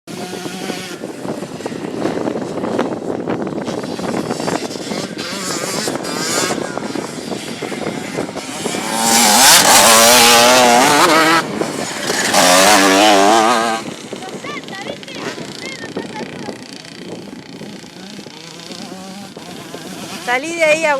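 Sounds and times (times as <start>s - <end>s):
motorcycle engine revving: 0.1s - 20.9s.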